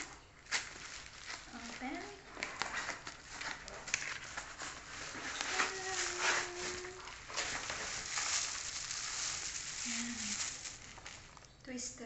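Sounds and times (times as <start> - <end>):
plastic packaging rustling: 0.0 - 11.6.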